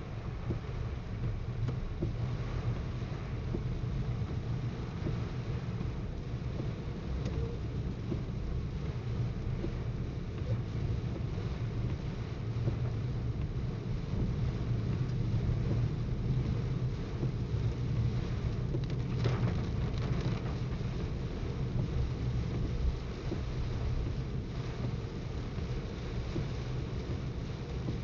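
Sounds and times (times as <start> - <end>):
engine and tyres on wet road: 0.0 - 28.0
rain hissing on car: 0.0 - 28.0.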